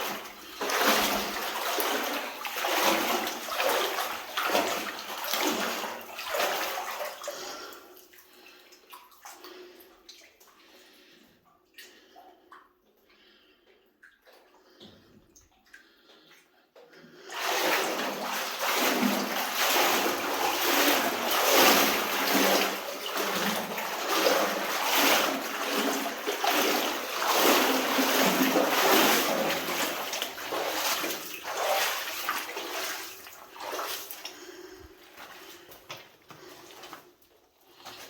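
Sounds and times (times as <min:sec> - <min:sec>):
water dripping: 0:00.0 - 0:17.3, 0:18.3 - 0:38.0
person wading through water: 0:00.0 - 0:38.0.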